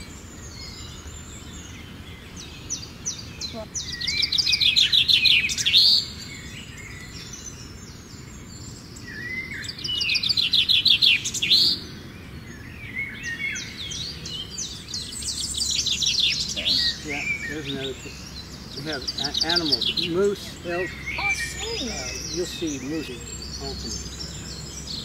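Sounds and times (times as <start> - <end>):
birds trilling loudly: 0.0 - 25.0
soft bird chirps: 0.0 - 25.0.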